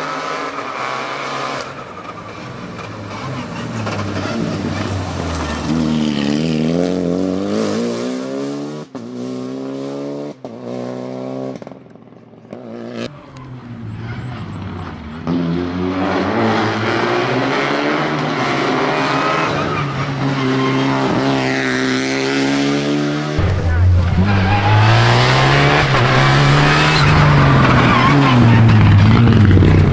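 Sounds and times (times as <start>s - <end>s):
rally car engine accelerating: 0.0s - 11.8s, 12.5s - 29.9s.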